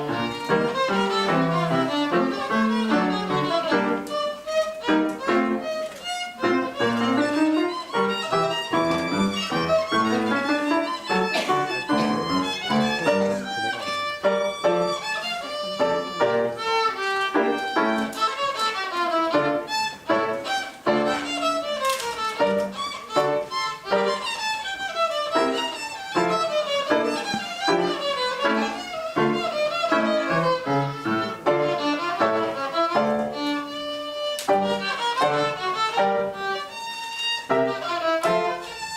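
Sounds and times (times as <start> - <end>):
violins playing quick bowed notes: 0.0 - 38.9.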